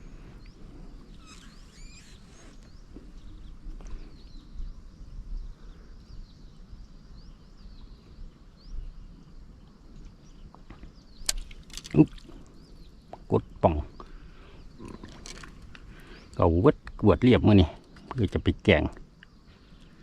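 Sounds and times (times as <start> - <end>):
bird chirping: 0.0 - 18.4.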